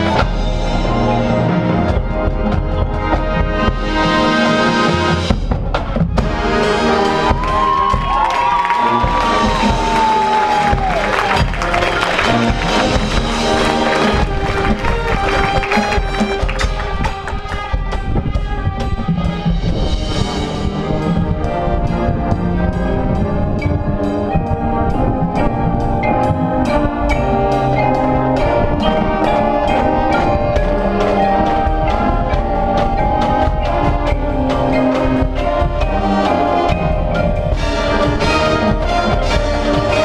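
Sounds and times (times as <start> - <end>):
marching band playing: 0.0 - 40.0.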